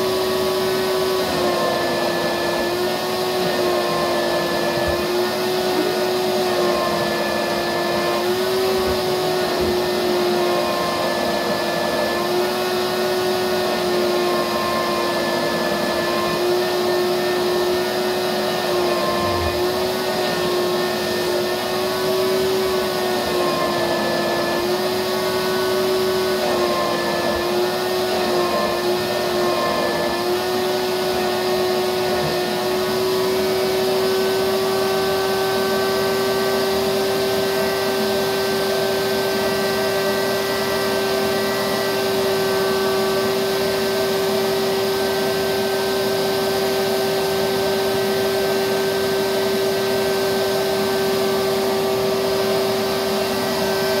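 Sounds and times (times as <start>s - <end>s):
shop vac running: 0.0s - 54.0s.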